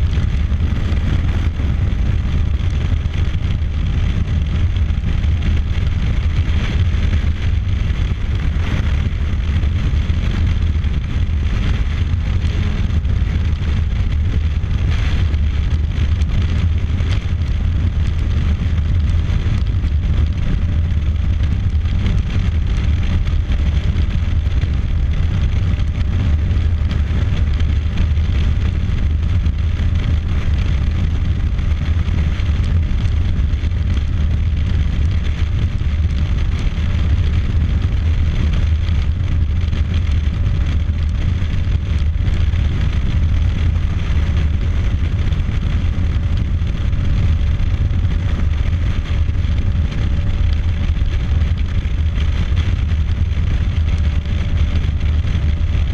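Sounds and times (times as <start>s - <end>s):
motorcycle cruising: 0.0s - 55.9s
wind rush on microphone: 0.0s - 55.9s.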